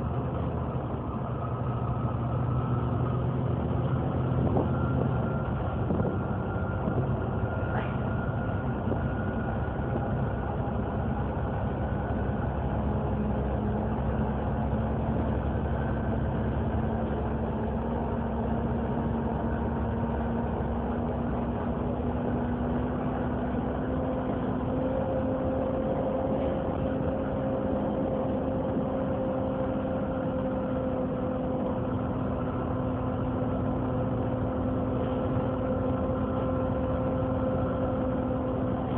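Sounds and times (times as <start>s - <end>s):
diesel bus engine idling: 0.0s - 38.9s.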